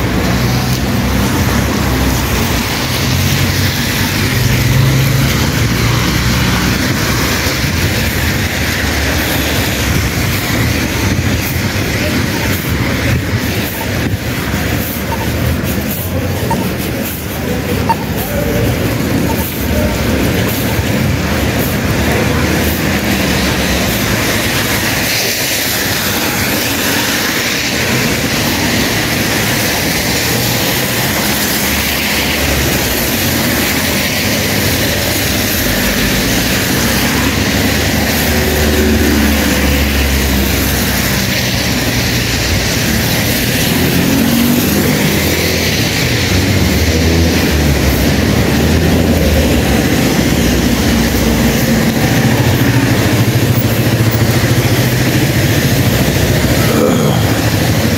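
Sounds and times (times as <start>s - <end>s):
car engines passing: 0.0s - 57.9s
tyres hissing on wet road: 0.0s - 57.9s.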